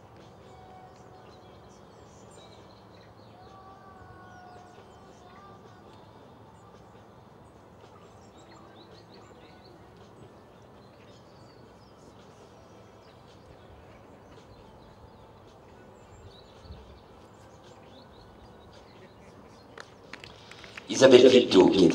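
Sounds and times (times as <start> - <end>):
small birds chirping: 0.4 - 20.9.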